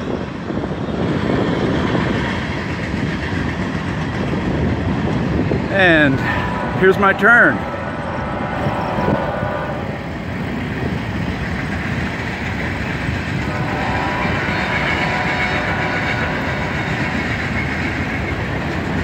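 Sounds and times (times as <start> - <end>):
wind noise on microphone: 0.0 - 19.0
tyres rolling on asphalt: 0.1 - 19.0.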